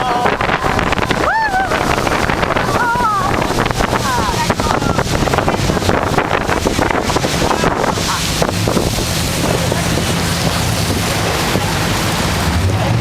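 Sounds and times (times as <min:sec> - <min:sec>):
boat engine drone: 0:00.0 - 0:13.0
wind buffeting microphone: 0:00.0 - 0:13.0.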